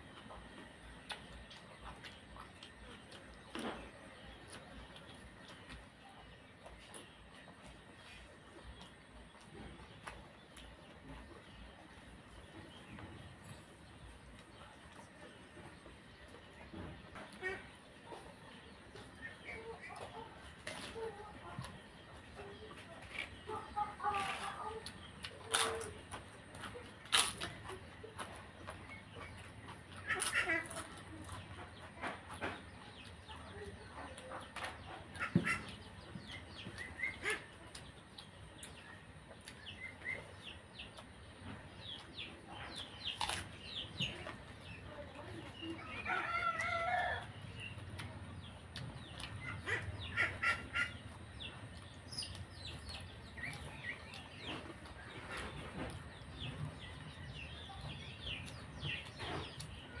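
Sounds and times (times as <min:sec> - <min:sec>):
chickens clucking: 0:00.0 - 1:00.0
mouth sounds of eating: 0:00.0 - 1:00.0.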